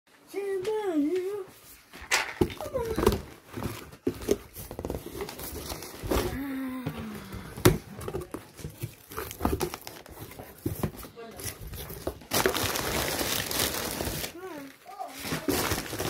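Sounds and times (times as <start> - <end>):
packing paper rustling and crinkling: 1.8 - 16.0.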